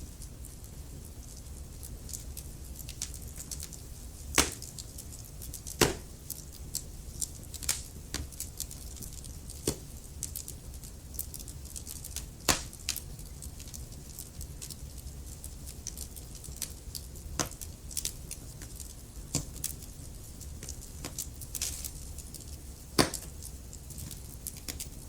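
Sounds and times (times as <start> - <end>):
fire flames rumbling: 0.0 - 25.0
wood fire crackling and popping: 0.0 - 25.0.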